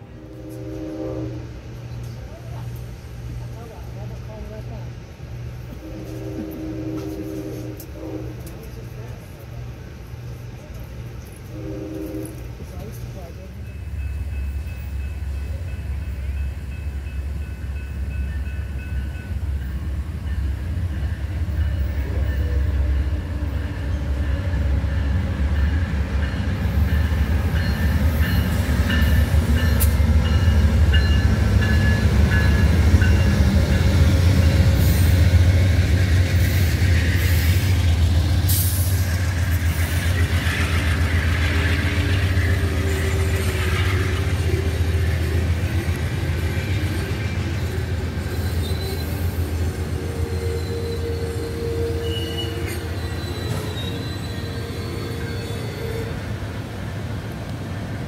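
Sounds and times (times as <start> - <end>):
passing train heavy rumble: 0.0 - 58.0.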